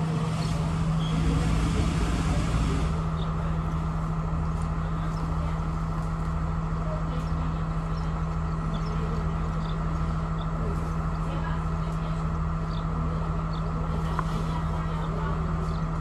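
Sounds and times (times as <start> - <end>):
train engine humming: 0.0 - 16.0.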